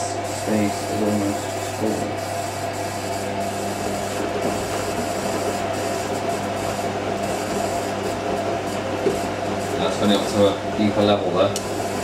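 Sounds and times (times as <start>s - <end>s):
drum motor turning: 0.0s - 12.0s
washing machine hum: 0.0s - 12.0s
water running in: 0.2s - 12.0s.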